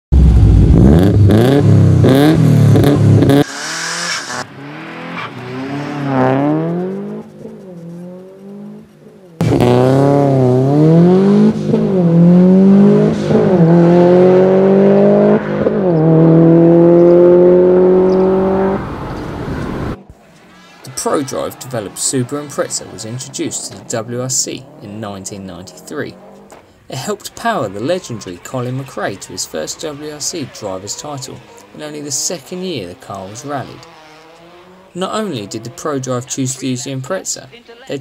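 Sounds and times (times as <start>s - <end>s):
exhaust cracks: 0.1s - 37.4s
car engine revving and accelerating: 0.2s - 37.3s.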